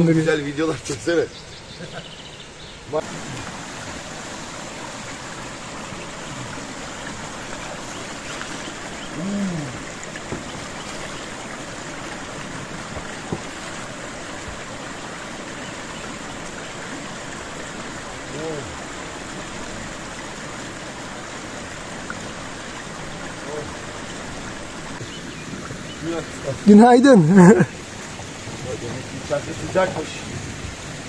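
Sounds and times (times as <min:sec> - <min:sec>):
stream running over rocks: 0:00.0 - 0:31.0.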